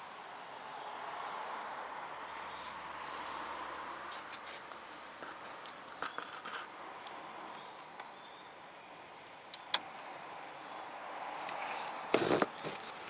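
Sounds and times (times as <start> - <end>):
road noise hiss: 0.0 - 13.0.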